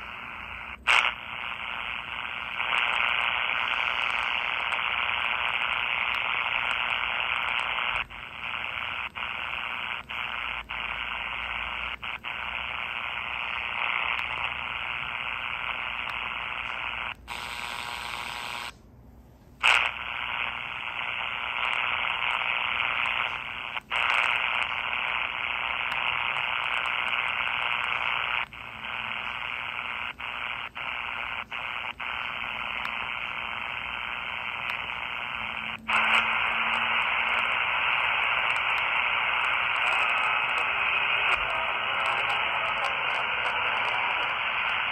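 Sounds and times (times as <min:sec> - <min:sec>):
radio static hiss: 0:00.0 - 0:44.9.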